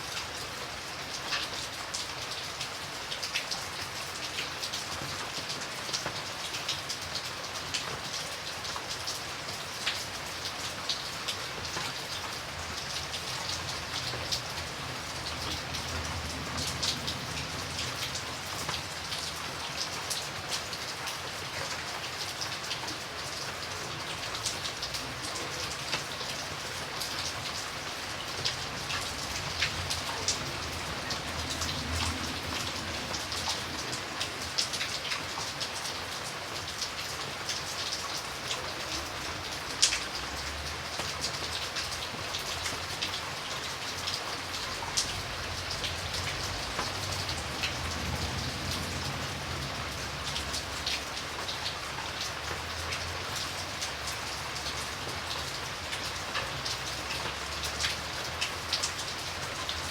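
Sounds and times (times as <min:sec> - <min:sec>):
rain falling: 0:00.0 - 0:59.9
raindrops ticking: 0:00.5 - 0:59.9.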